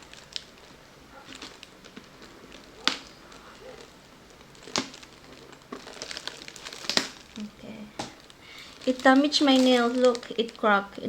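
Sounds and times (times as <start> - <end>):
plastic package rustling: 0.0 - 11.0.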